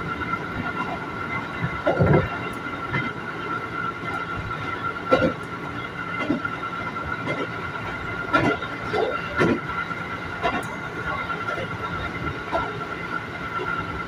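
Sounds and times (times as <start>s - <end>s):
electric train rumble and hum: 0.0s - 14.0s.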